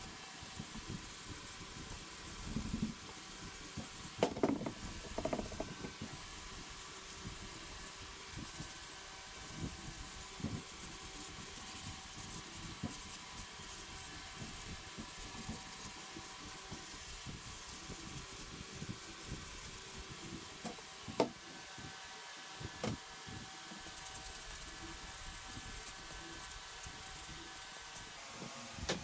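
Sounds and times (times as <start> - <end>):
sandpaper rubbing plastic: 0.4 - 21.9, 22.6 - 29.0.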